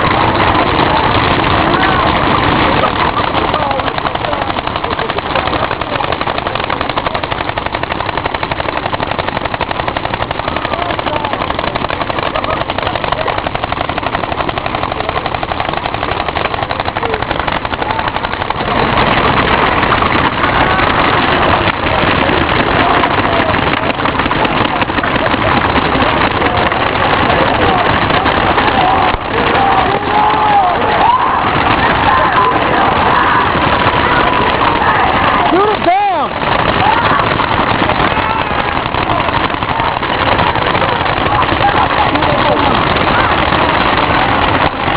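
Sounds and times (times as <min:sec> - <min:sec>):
paintball markers firing: 0:00.0 - 0:44.9
people shouting: 0:00.0 - 0:44.9.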